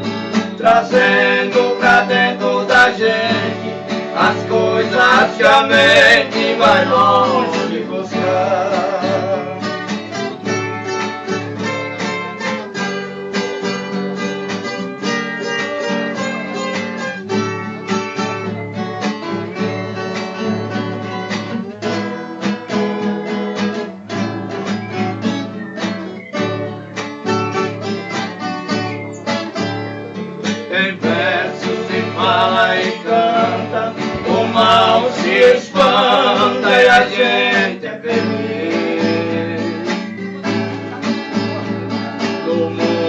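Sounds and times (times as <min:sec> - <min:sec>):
plucked guitar run: 0:00.0 - 0:43.0
strummed string accompaniment: 0:00.0 - 0:43.0.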